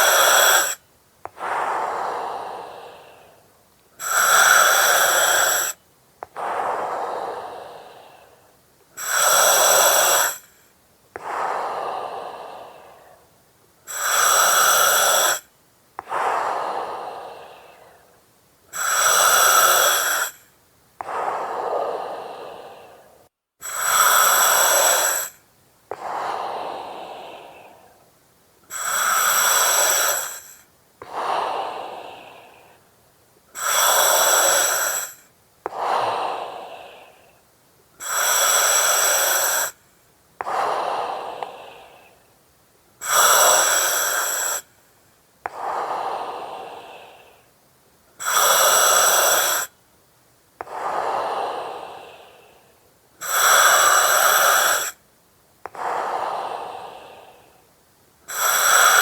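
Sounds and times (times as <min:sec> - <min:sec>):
breathing through oxygen mask: 0:00.0 - 0:10.6, 0:11.2 - 0:13.3, 0:13.9 - 0:28.1, 0:28.7 - 0:32.9, 0:33.5 - 0:37.4, 0:38.0 - 0:39.8, 0:40.4 - 0:42.2, 0:43.0 - 0:44.7, 0:45.5 - 0:47.6, 0:48.2 - 0:49.7, 0:50.6 - 0:55.0, 0:55.7 - 0:57.7, 0:58.3 - 0:59.0.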